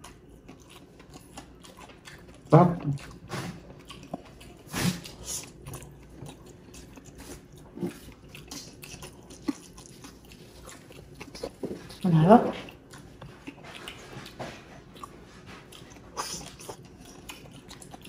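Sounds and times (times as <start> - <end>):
chewing and biting food: 0.0 - 18.0.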